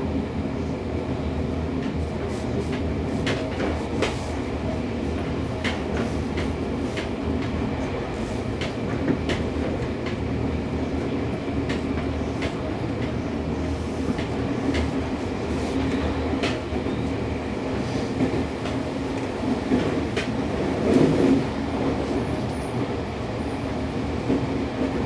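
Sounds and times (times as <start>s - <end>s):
train wheels rumbling: 0.9s - 25.0s.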